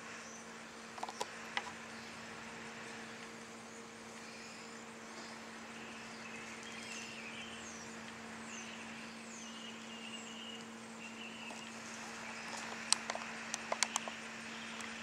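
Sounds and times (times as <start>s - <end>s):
electrical hum: 0.0s - 15.0s
faint bird chirps: 0.1s - 12.9s, 13.8s - 15.0s.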